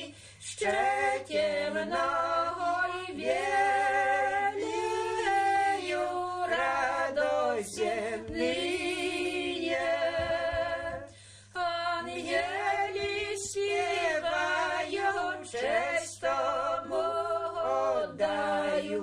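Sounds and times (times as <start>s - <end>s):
women singing a cappella: 0.0s - 19.0s.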